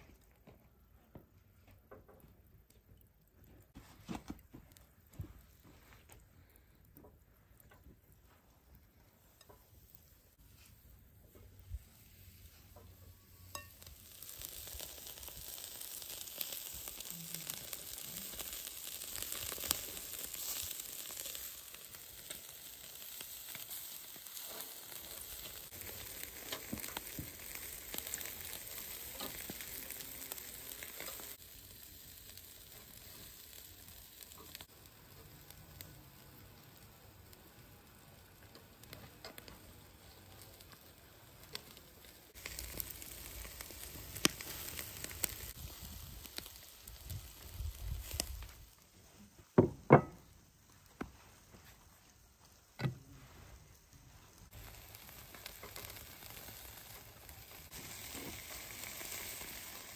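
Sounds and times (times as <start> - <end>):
food frying in hot fat: 2.0 - 59.9.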